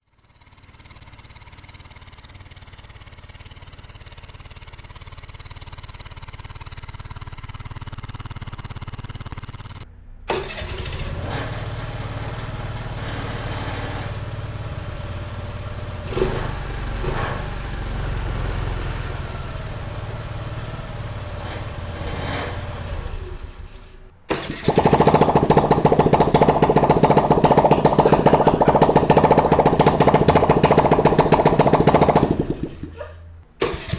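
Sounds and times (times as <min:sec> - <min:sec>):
small engine exhaust: 0:00.0 - 0:33.9.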